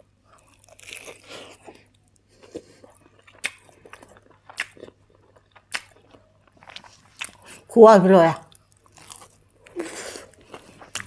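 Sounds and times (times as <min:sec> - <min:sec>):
person chewing: 0:00.3 - 0:07.7, 0:08.5 - 0:11.0.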